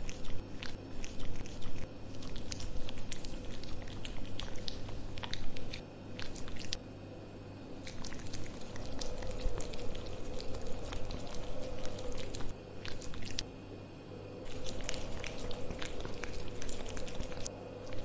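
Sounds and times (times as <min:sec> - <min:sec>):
cat chewing wet food: 0:00.0 - 0:06.8, 0:07.8 - 0:13.4, 0:14.4 - 0:18.0
low hum: 0:00.0 - 0:18.0.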